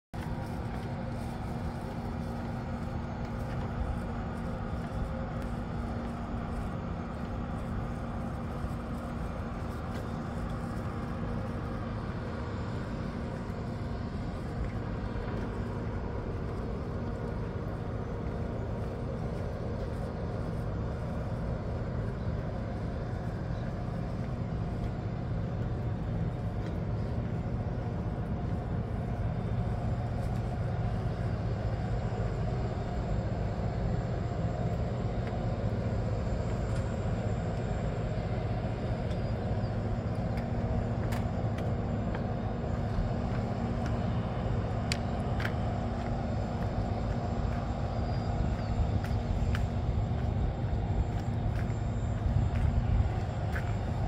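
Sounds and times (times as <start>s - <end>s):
machinery drone: 0.2s - 54.0s.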